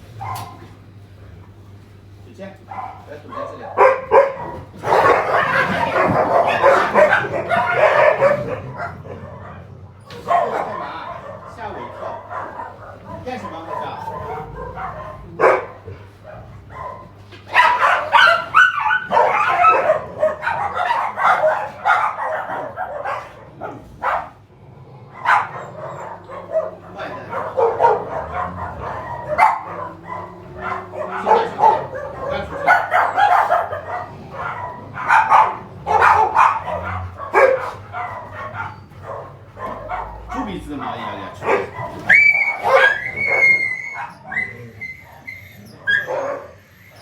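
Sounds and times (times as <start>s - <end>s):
dogs barking and yipping: 0.0s - 24.5s, 25.1s - 47.0s.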